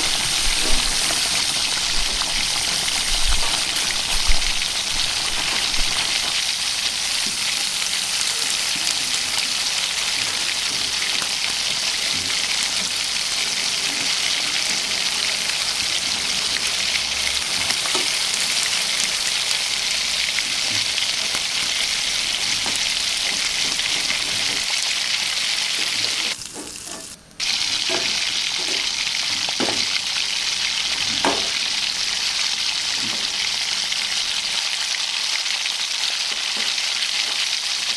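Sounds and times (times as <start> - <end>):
food sizzling in hot oil: 0.0 - 37.9.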